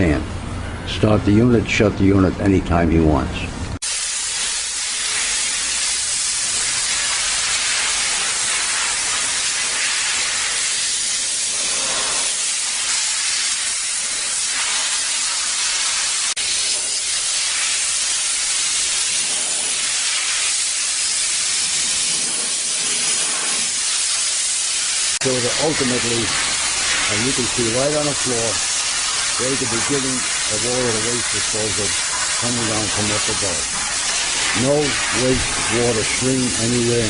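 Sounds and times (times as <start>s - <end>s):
steam cleaner hissing: 3.8s - 37.0s.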